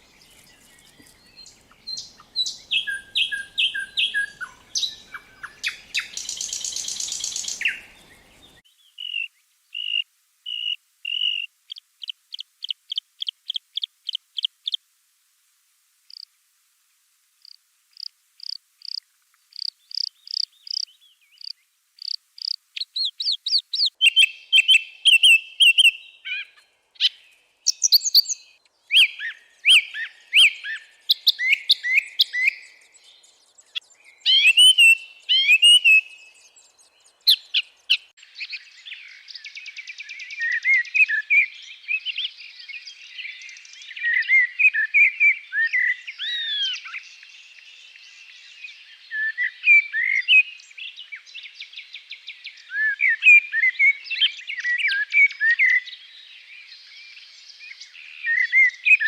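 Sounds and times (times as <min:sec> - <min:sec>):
songbirds singing: 0:00.0 - 0:14.8, 0:17.4 - 0:59.0.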